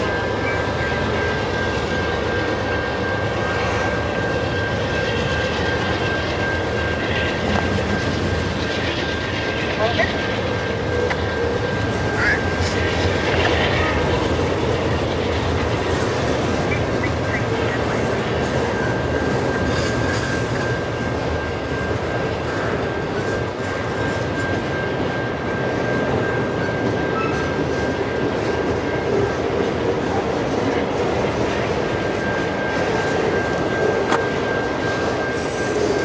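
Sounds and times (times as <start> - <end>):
freight train wheels on rail: 0.0 - 36.0.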